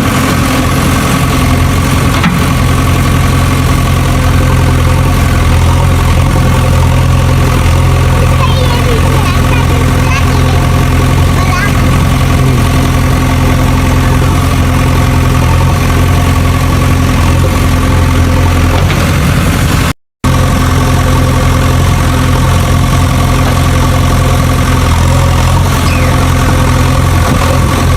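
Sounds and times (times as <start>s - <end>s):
engine idling: 0.0s - 27.9s.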